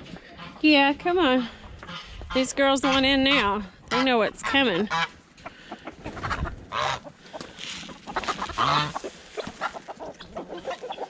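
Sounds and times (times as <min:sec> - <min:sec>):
hens clucking: 0:00.0 - 0:11.0
geese honking: 0:00.2 - 0:11.0.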